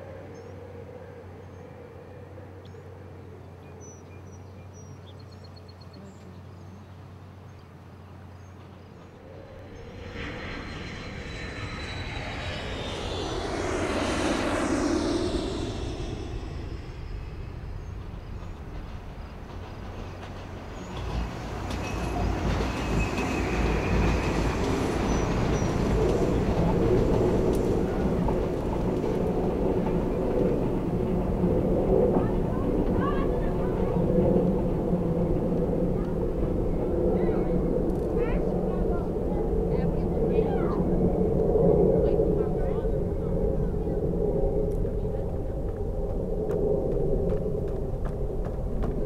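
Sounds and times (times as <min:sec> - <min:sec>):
elevated train rumbling: 0:00.0 - 0:49.0
passing vehicle noise: 0:07.0 - 0:49.0.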